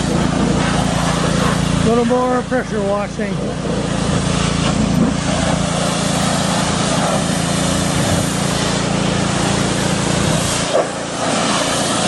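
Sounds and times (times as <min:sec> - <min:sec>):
pressure washer motor humming: 0:00.0 - 0:12.0
water jet spraying on car: 0:00.0 - 0:12.0.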